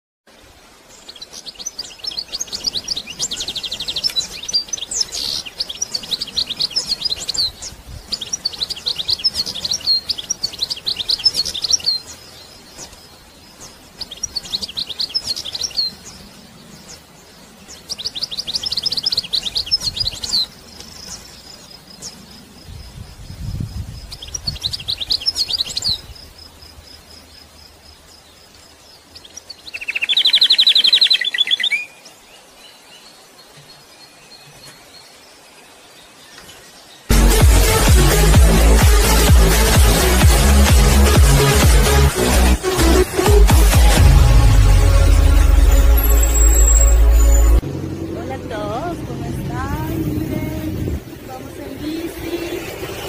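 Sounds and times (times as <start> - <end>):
birds chirping: 0.3 - 53.0.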